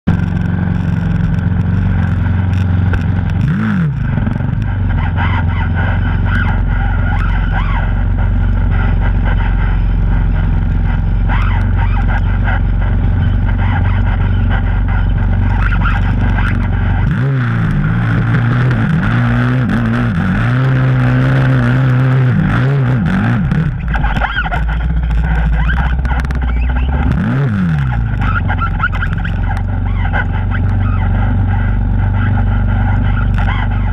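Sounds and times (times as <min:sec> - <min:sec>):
quad engine revving: 0:00.0 - 0:33.9.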